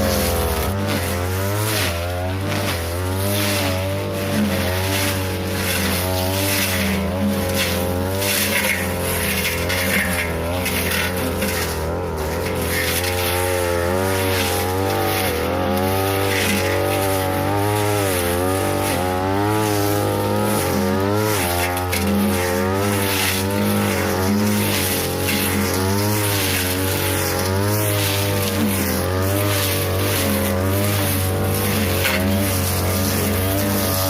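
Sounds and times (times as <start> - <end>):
brush cutter cutting grass: 0.0 - 34.0.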